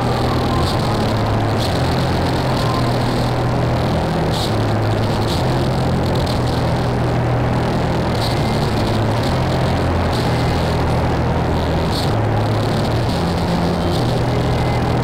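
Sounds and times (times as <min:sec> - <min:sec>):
low droning tones: 0:00.0 - 0:15.0.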